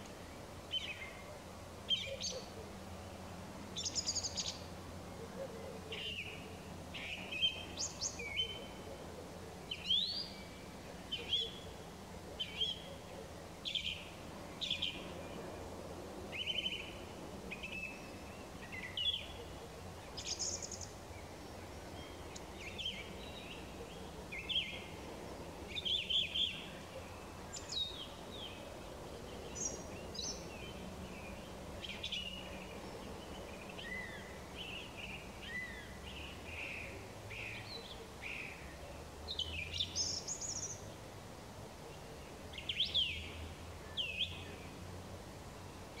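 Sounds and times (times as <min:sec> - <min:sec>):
songbirds singing: 0:00.0 - 0:46.0.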